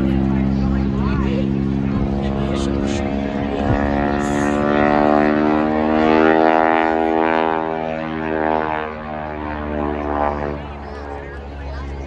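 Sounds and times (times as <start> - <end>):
biplane engine and propeller drone: 0.0 - 12.0.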